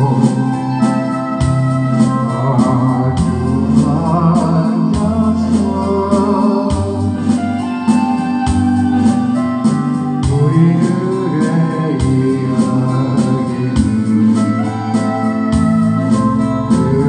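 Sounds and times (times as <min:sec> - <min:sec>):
bass line: 0:00.0 - 0:17.0
electronic keyboard chords: 0:00.0 - 0:17.0
steady drum beat: 0:00.0 - 0:17.0.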